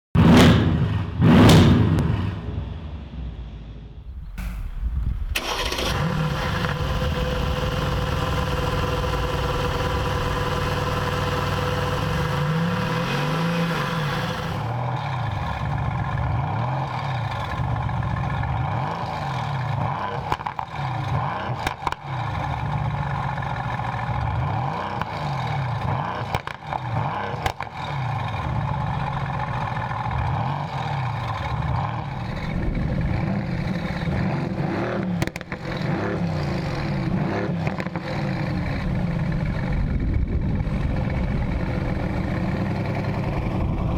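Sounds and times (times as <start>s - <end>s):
car engine revving: 0.2s - 43.9s
car engine starting and idling: 1.8s - 43.9s.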